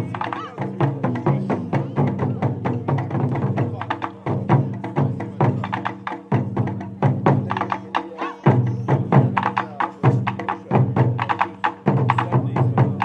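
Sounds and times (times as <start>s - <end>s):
taiko drums ensemble: 0.0s - 13.0s.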